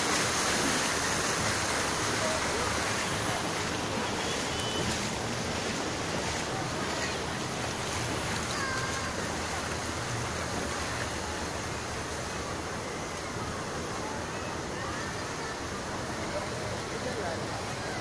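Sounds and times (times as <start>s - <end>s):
surf rushing in wave pool: 0.0s - 18.0s.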